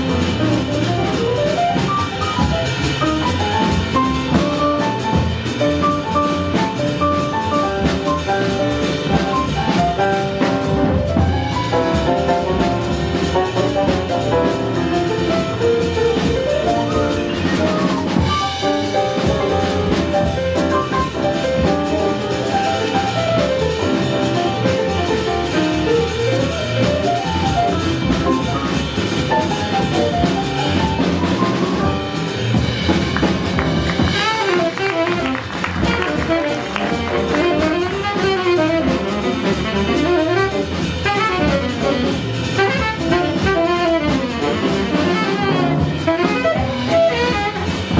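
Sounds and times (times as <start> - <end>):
small jazz band playing: 0.0 - 47.9.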